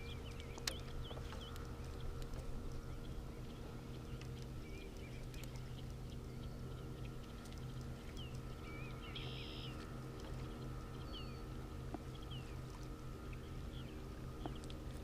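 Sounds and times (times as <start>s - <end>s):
low mechanical hum: 0.0s - 15.0s
small birds chirping: 0.0s - 15.0s.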